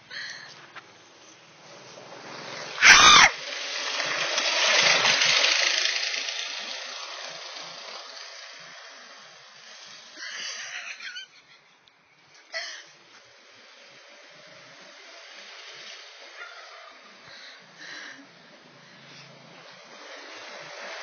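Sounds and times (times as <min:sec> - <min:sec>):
go-kart engine running: 0:00.0 - 0:11.5, 0:12.4 - 0:21.0.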